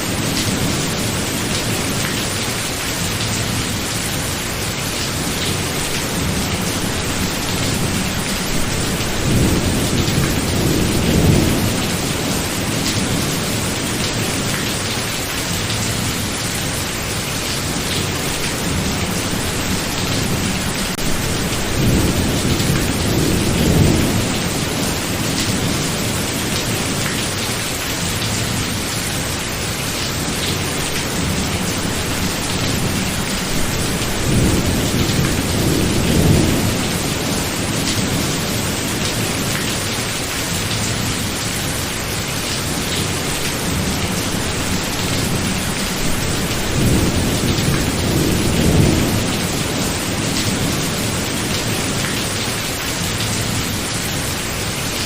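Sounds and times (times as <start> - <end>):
heavy steady rain: 0.0 - 55.0.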